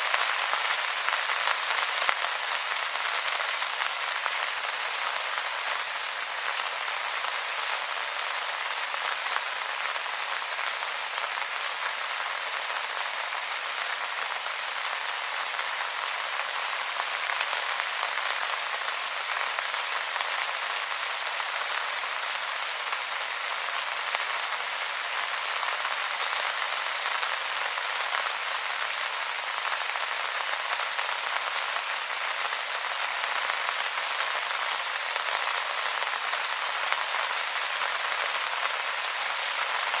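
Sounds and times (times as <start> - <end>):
rain falling on wet leaves: 0.0 - 40.0.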